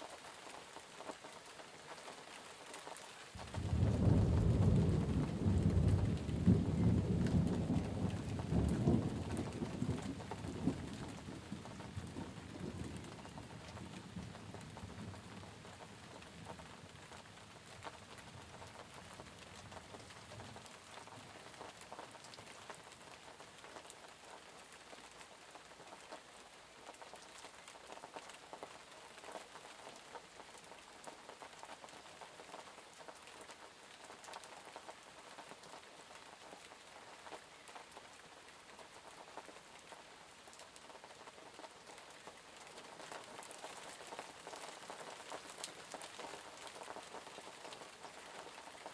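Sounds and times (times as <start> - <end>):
steady rain pattering: 0.0 - 48.9.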